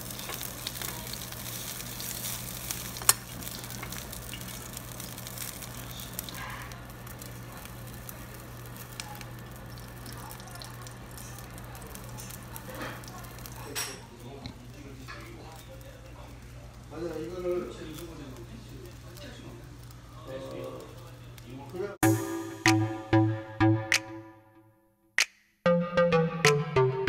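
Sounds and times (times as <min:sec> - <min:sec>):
pork sizzling on a grill: 0:00.0 - 0:22.6.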